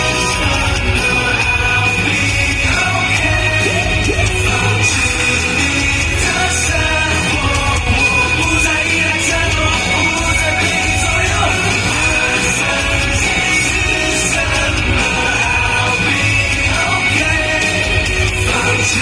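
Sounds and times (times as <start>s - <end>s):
live pop-rock band: 0.0s - 19.0s
person singing: 0.0s - 19.0s.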